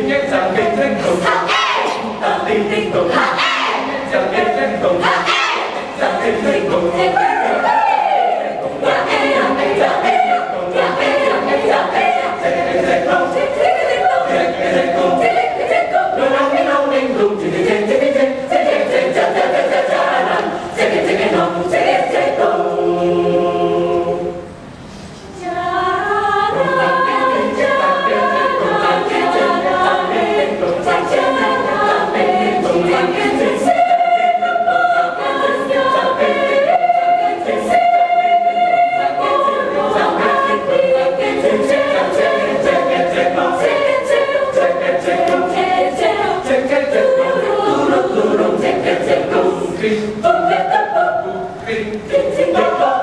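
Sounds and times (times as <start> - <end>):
choir singing a cappella: 0.0 - 53.0.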